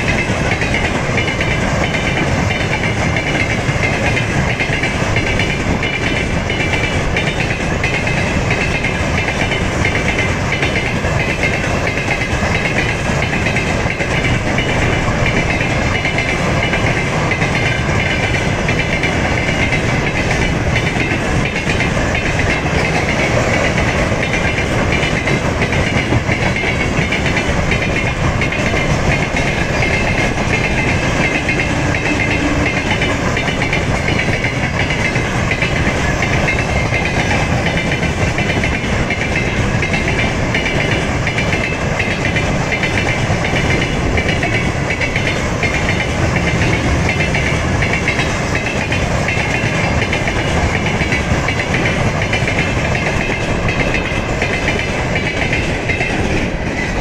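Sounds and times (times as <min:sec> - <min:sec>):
train clattering over rail joints: 0:00.0 - 0:57.0
train wheels rumbling on rails: 0:00.0 - 0:57.0.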